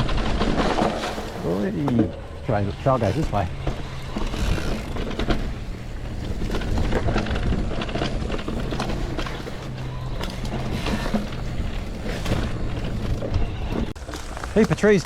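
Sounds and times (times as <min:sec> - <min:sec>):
bike clicks and rattles: 0:00.0 - 0:15.0
electric bike motor and tyre hum: 0:00.0 - 0:15.0.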